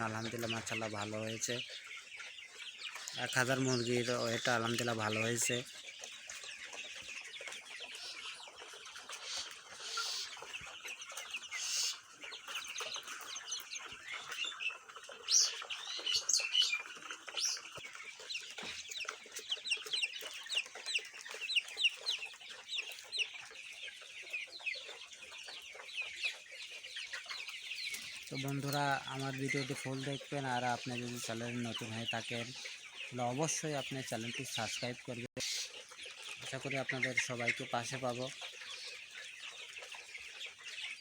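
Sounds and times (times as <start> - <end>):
chickens cheeping and clucking: 0.0 - 41.0.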